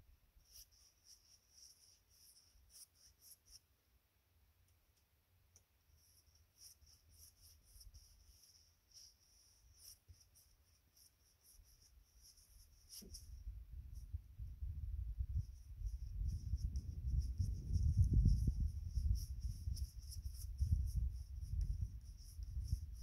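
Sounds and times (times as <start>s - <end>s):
paint brush strokes on canvas: 0.4s - 3.7s, 5.9s - 23.0s.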